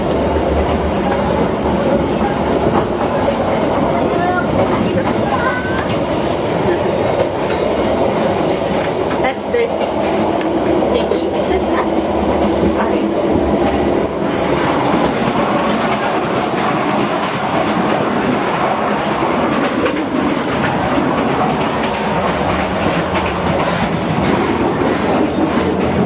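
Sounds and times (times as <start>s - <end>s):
train wheels rumbling on track: 0.0s - 26.0s
rattles of rocking train car: 0.7s - 11.2s, 12.2s - 26.0s.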